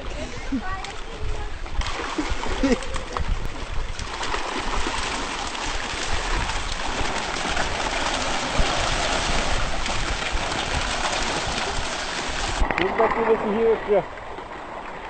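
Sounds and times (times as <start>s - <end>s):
fish splashing and churning water: 0.0s - 15.0s.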